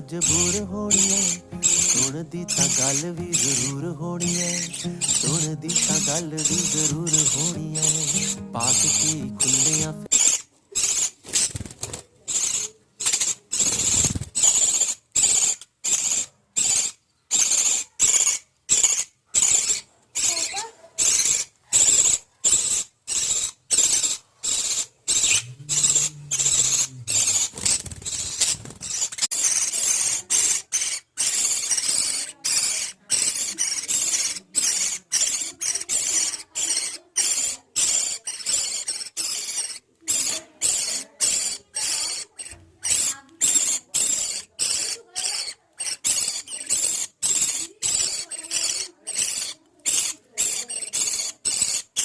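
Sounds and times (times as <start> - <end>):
budgerigar chicks begging squeals: 0.0 - 11.6, 12.3 - 52.0.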